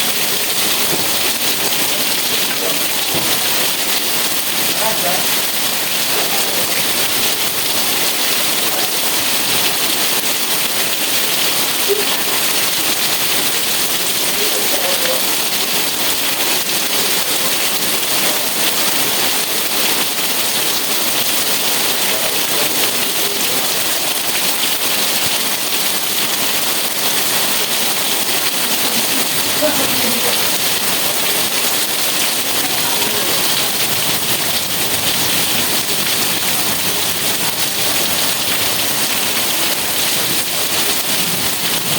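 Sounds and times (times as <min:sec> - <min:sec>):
rain with wind: 0:00.0 - 0:41.9.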